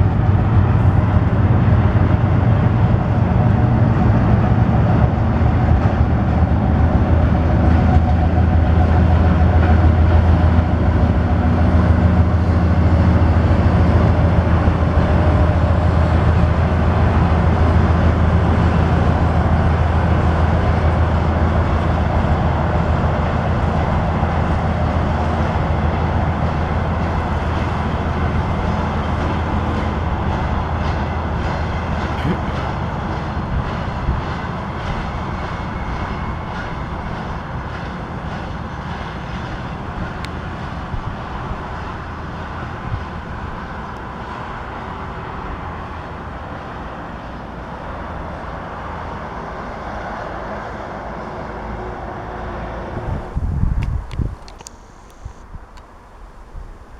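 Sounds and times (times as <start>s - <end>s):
train wheels clicking over rail joints: 0.0s - 50.7s
diesel locomotive engine drone: 0.0s - 56.9s.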